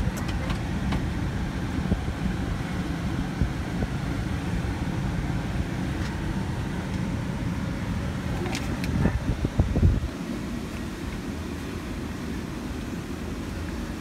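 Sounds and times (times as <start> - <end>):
vehicle idling rumble: 0.0 - 14.0.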